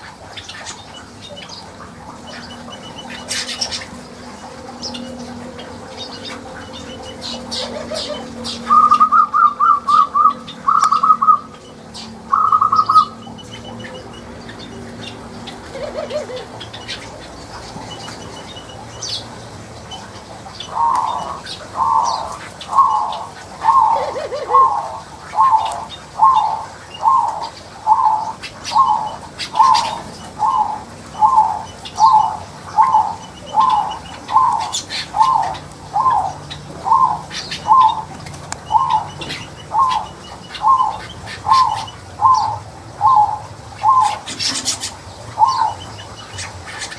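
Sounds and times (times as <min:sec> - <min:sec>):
birds trilling: 0:00.0 - 0:46.9
repeated short bird calls: 0:00.0 - 0:46.9.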